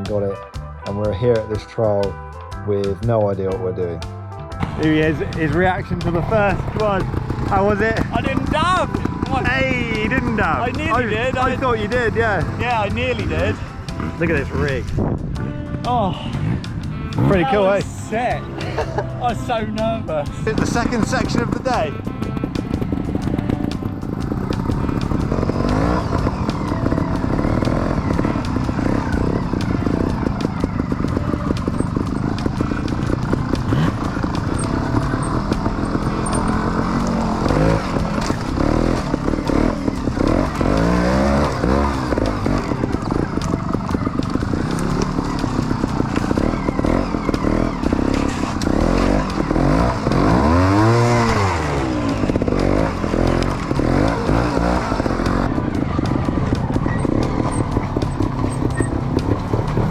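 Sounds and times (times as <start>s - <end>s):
motorbike engine revving: 4.1s - 59.9s.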